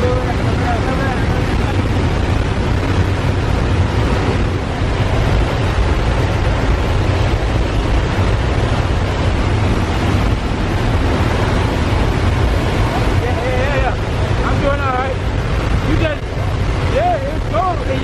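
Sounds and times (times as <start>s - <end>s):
airplane engine and wind drone: 0.0s - 18.0s.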